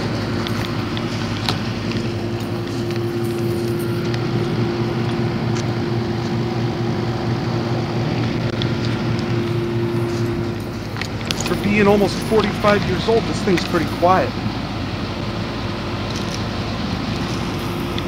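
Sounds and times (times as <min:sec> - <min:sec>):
air conditioner unit humming: 0:00.0 - 0:18.0
condenser fan rushing: 0:00.0 - 0:18.0.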